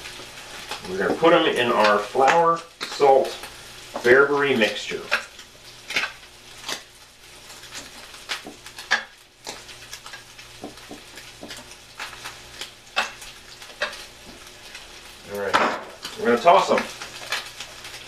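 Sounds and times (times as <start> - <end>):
pancetta sizzling in a pan: 0.0 - 18.0.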